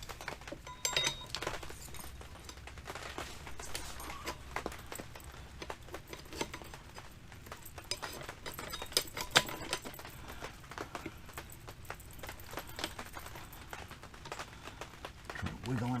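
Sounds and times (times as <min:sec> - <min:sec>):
small metal clicks and clinks: 0:00.0 - 0:16.0.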